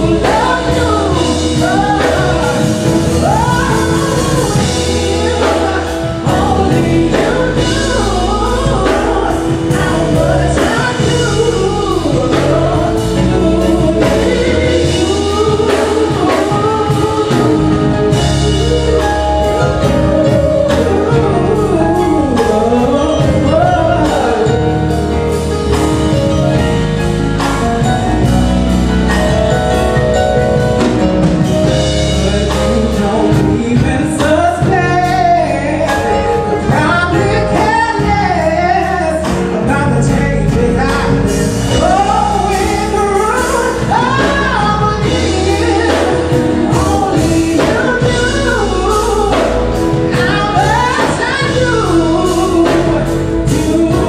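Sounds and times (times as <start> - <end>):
band with bass and drums: 0.0 - 54.0
men singing a soul ballad: 0.0 - 54.0.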